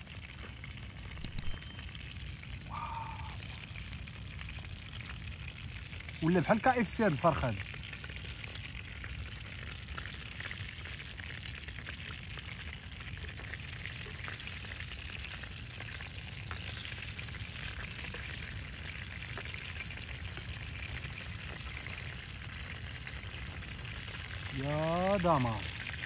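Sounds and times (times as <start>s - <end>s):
fish frying in oil: 0.0s - 26.0s.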